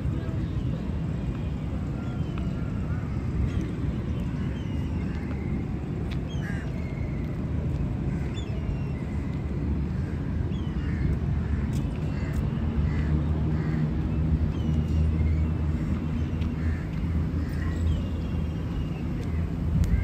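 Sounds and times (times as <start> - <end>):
city traffic rumble: 0.0 - 20.0
birds calling: 1.9 - 20.0.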